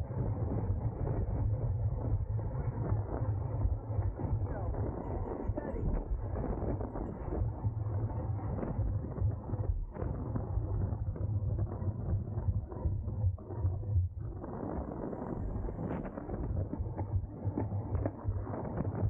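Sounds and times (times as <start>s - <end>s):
wind buffeting microphone: 0.5s - 19.0s.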